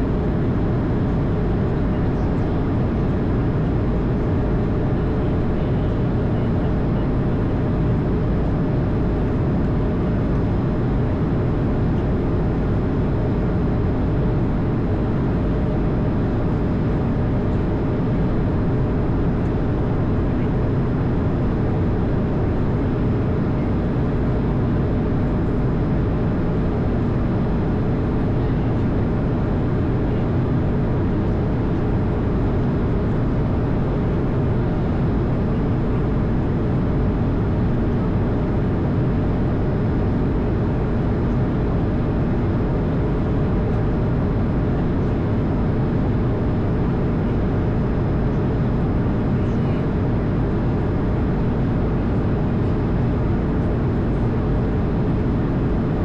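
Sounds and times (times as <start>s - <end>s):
aircraft cockpit engine rush: 0.0s - 56.0s
faint steady hum: 0.0s - 56.0s.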